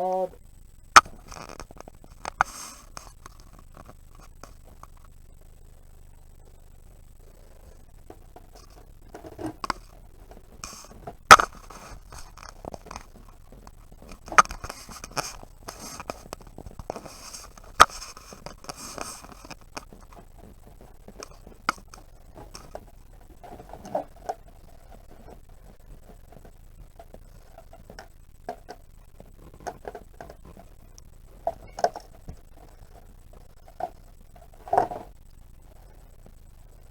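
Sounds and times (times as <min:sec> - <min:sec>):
clicks and knocks on plastic: 0:00.9 - 0:05.2, 0:07.9 - 0:35.4
scraping on plastic: 0:01.0 - 0:05.0, 0:07.3 - 0:35.2.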